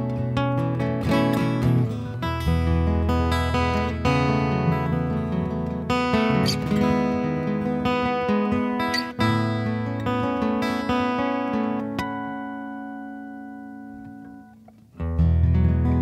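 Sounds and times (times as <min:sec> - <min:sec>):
fingerpicked acoustic guitar: 0:00.0 - 0:16.0
fingerpicked guitar music: 0:00.0 - 0:16.0.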